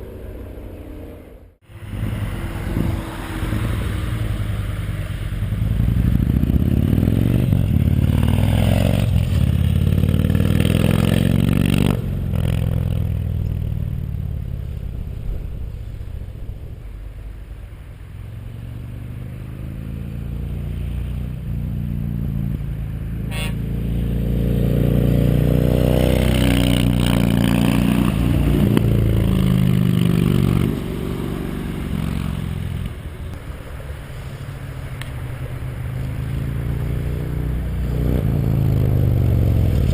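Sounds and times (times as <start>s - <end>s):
motorcycle engine accelerating hard: 0.0s - 16.0s, 18.1s - 32.9s, 35.8s - 39.9s.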